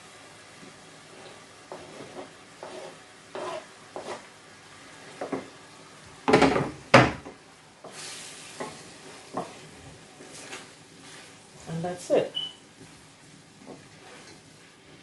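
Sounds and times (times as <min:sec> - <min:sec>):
onions sizzling in a pan: 0:00.0 - 0:06.2, 0:07.4 - 0:15.0.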